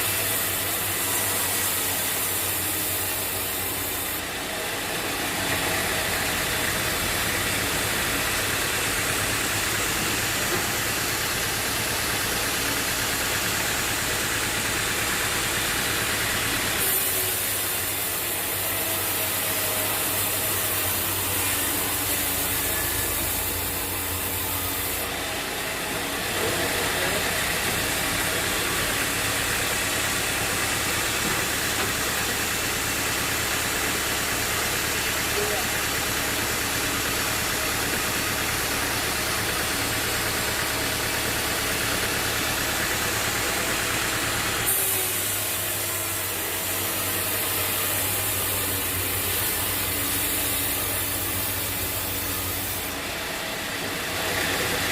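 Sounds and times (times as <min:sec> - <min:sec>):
saw hissing: 0:00.0 - 0:04.4, 0:06.1 - 0:25.3, 0:26.6 - 0:53.2
sawmill engine running: 0:00.0 - 0:54.9.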